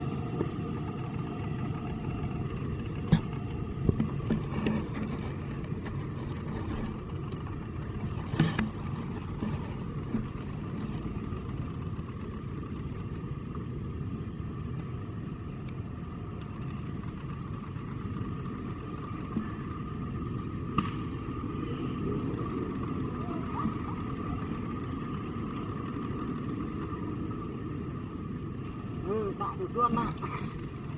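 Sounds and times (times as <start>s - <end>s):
low mechanical drone: 0.0s - 30.9s.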